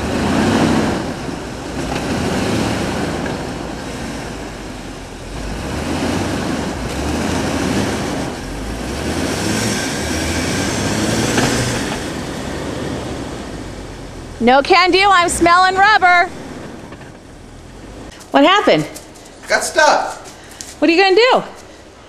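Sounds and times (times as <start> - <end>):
engine revving: 0.0 - 19.4
tyres spinning in snow: 0.0 - 21.1.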